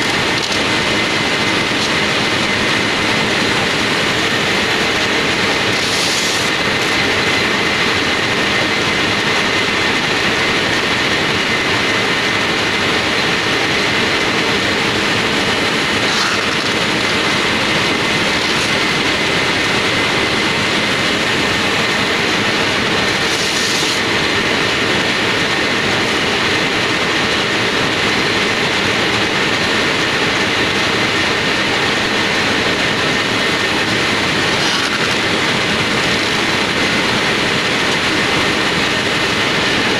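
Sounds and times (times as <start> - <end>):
machine rollers rushing: 0.0 - 39.9.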